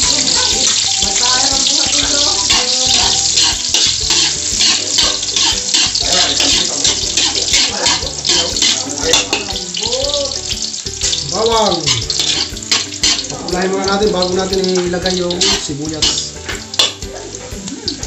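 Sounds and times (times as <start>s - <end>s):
garlic sizzling in hot oil: 0.0s - 18.0s
spatula stirring in wok: 0.0s - 18.0s.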